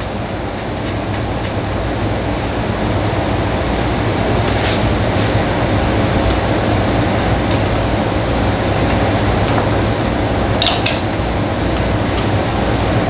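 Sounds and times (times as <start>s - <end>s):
blower fan rushing: 0.0s - 13.0s.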